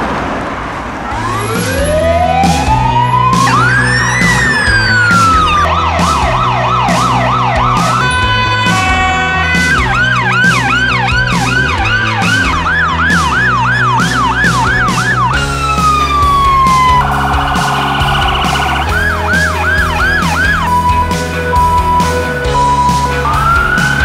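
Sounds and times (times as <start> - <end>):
emergency vehicle sirens: 1.0 - 24.0
background music with steady beat: 1.2 - 24.0.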